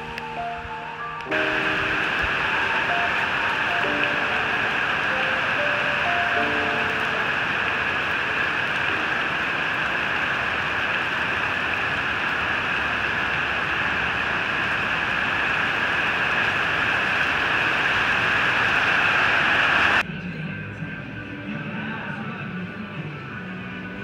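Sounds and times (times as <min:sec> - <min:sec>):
heavy rain on a wet street: 0:00.0 - 0:20.0.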